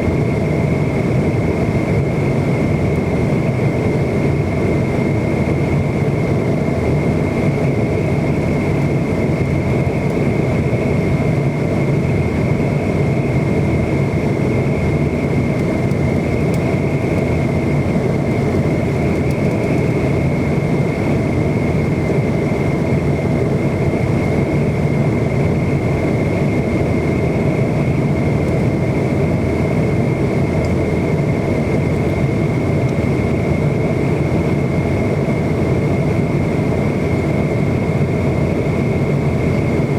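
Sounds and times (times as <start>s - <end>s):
jet engine roar in cabin: 0.0s - 39.9s.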